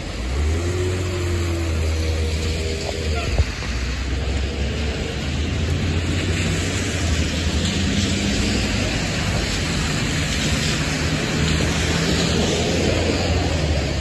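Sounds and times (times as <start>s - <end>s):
low engine hum: 0.0s - 14.0s
tyres hissing on wet road: 0.0s - 14.0s.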